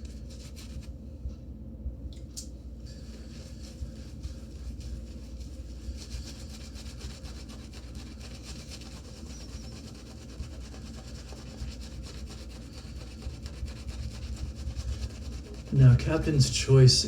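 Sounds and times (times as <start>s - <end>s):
shaving brush scrubbing soap: 2.9s - 17.0s.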